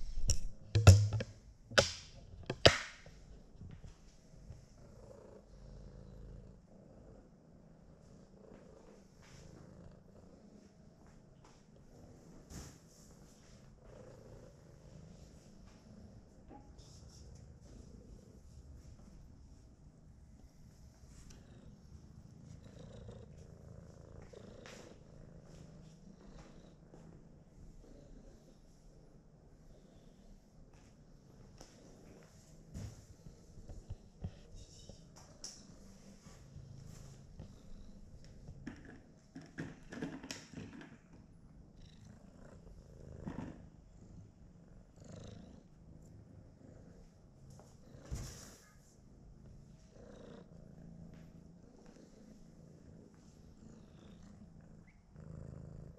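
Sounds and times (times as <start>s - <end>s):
cat purring: 0.0s - 55.9s.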